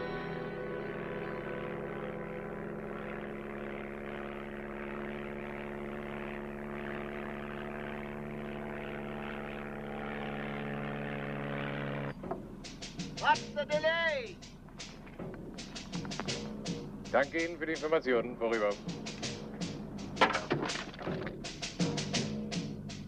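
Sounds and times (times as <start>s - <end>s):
propeller aircraft engine droning: 0.0s - 23.0s.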